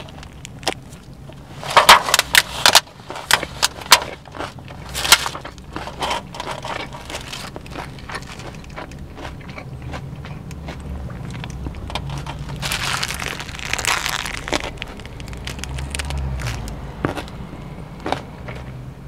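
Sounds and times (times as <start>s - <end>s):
chewing and crunching food: 0.0s - 19.0s
low car hum: 0.0s - 19.0s.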